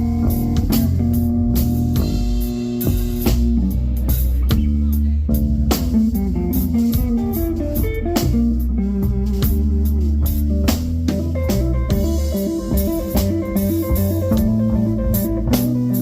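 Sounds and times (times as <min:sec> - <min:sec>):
bass: 0:00.0 - 0:16.0
drum kit: 0:00.0 - 0:16.0
guitar: 0:00.0 - 0:16.0.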